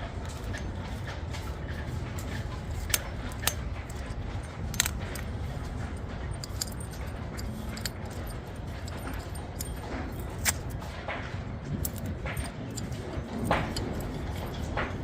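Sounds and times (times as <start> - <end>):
metallic clinks of tools: 2.2 - 15.0.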